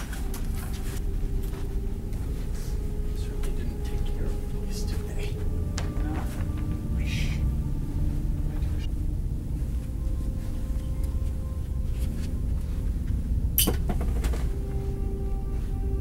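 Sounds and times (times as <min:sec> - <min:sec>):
low steady rumble: 0:00.0 - 0:16.0
suspenseful background music: 0:00.0 - 0:16.0.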